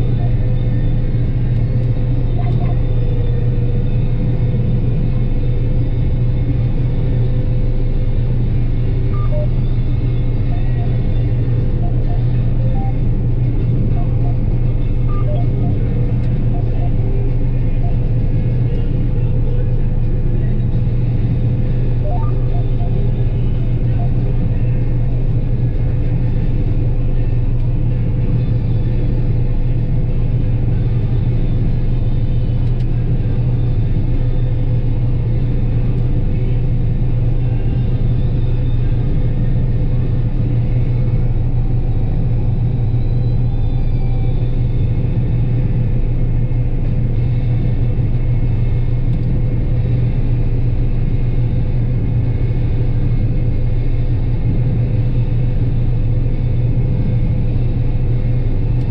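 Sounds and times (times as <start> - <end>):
combine harvester running: 0.0 - 58.9.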